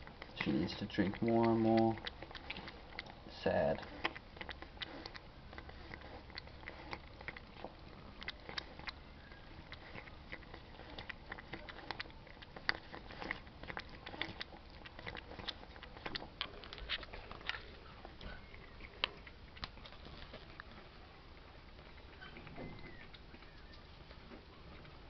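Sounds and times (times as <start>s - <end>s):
cat lapping milk: 0.0s - 22.2s.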